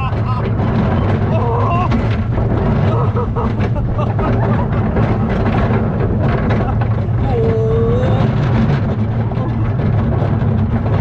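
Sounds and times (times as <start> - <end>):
roller coaster wheels rumbling: 0.0 - 11.0.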